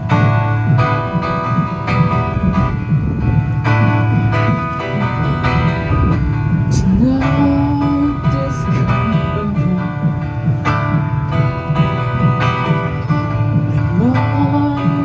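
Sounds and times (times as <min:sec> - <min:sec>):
bass guitar: 0:00.0 - 0:15.0
keyboard chords: 0:00.0 - 0:15.0
strummed guitar: 0:00.0 - 0:15.0.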